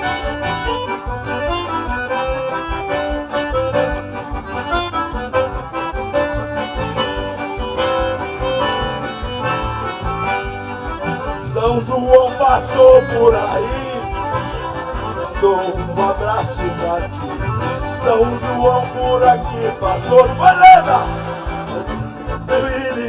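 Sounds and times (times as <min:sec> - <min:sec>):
accordions playing melody: 0:00.0 - 0:23.0
steady percussion beat: 0:00.0 - 0:23.0.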